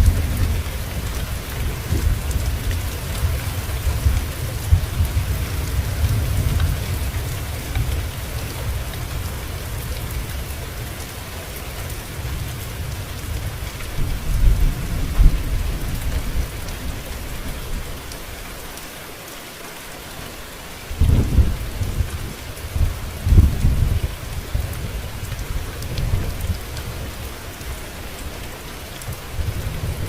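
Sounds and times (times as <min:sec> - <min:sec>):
low rolling thunder: 0:00.0 - 0:11.0, 0:12.1 - 0:18.0, 0:20.9 - 0:27.8, 0:29.1 - 0:30.0
steady rain falling: 0:00.0 - 0:30.0.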